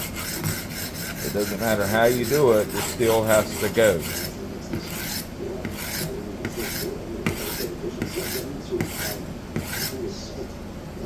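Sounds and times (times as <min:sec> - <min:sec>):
knife grinding on diamond plate: 0:00.0 - 0:10.0.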